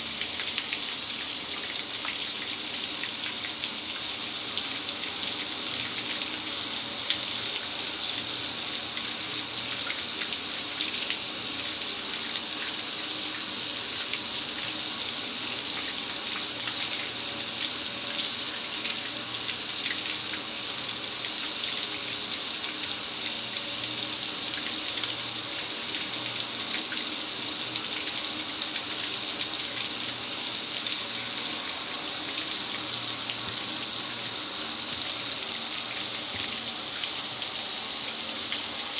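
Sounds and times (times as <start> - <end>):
water spray hissing and splashing: 0.0 - 38.9.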